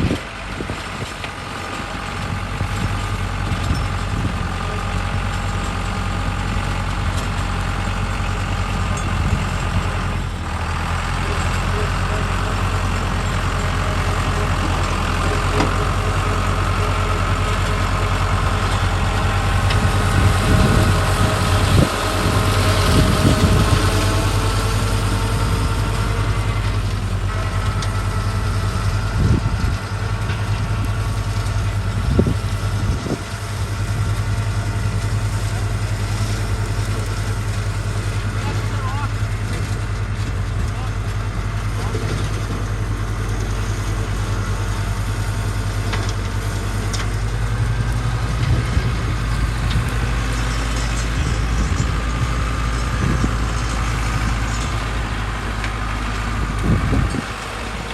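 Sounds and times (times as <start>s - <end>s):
flail mower whine: 0.0s - 57.9s
tractor engine running: 0.0s - 57.9s.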